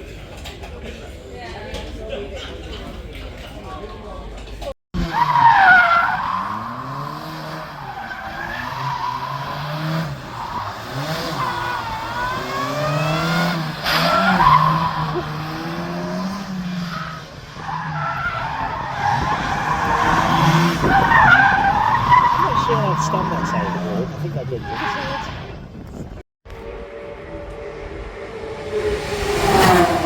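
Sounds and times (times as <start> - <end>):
tyres skidding and squealing: 4.3 - 30.0
car engines revving: 4.5 - 30.0.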